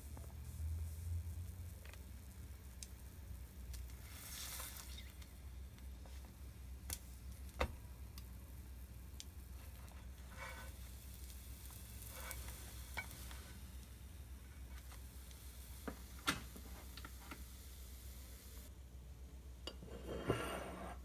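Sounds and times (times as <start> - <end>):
food sizzling in a pan: 0.0 - 18.7.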